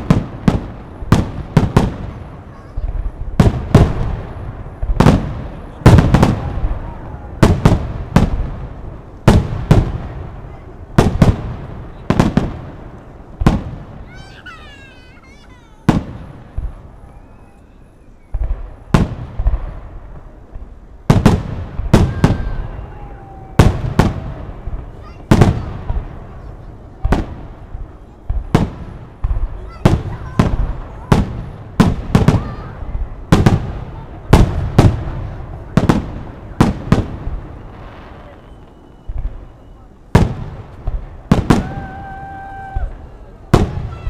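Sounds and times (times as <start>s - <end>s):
fireworks bursting with loud bangs: 0.0s - 44.0s.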